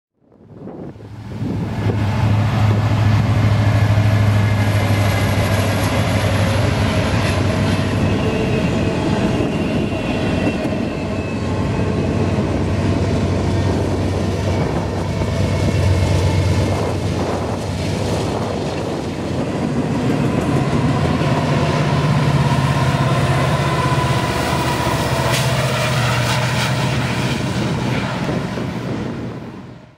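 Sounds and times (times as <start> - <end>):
locomotive engine drone: 0.4 - 29.9.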